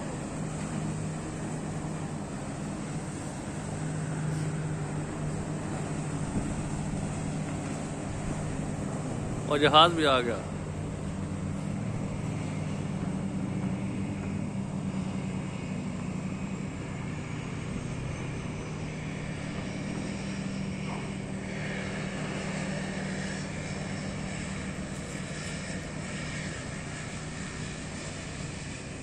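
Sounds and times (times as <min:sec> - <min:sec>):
propeller engines droning: 0:00.0 - 0:29.0.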